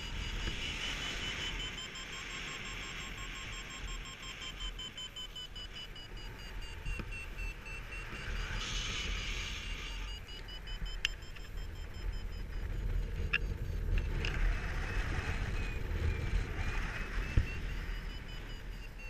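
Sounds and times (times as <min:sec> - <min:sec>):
variometer high beeps: 0:00.0 - 0:14.3, 0:15.3 - 0:19.0
wind rumbling on microphone: 0:00.0 - 0:19.0.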